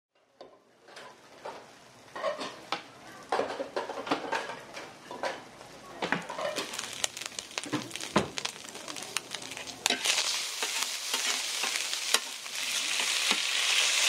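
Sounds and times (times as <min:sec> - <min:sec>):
metal utensils and dishes clattering: 0:00.4 - 0:14.0.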